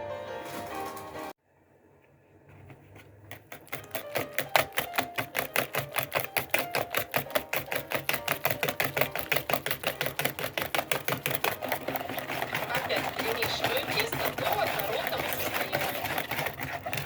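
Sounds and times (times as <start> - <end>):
whisk clicking against bowl: 3.3 - 17.0.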